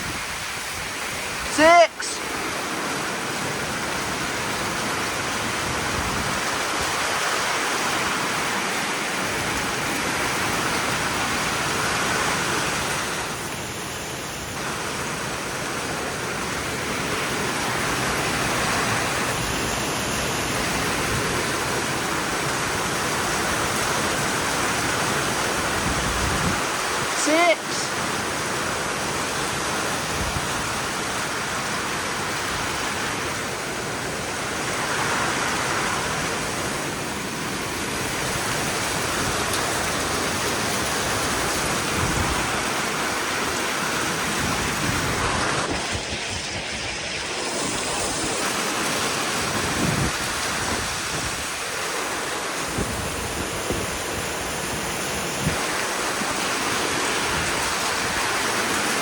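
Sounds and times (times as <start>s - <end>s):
rain: 0.0s - 59.0s
wind: 0.0s - 59.0s.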